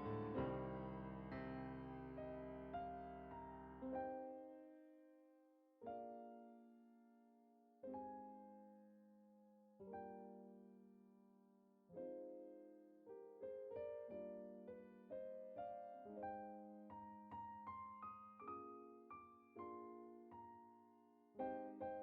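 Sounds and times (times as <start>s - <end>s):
soft solo piano music: 0.0s - 22.0s.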